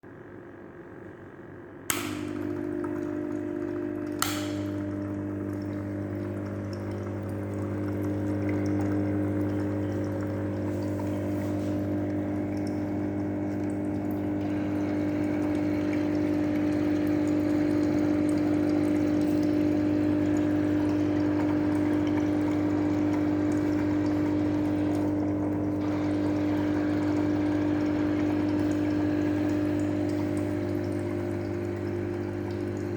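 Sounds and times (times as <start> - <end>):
air pump humming: 1.8 - 32.9
water bubbling: 2.0 - 32.9.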